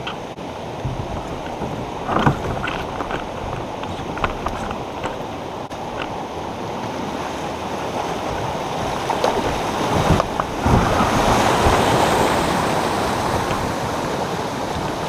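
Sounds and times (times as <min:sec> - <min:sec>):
water rushing over waterfall: 0:00.0 - 0:15.0.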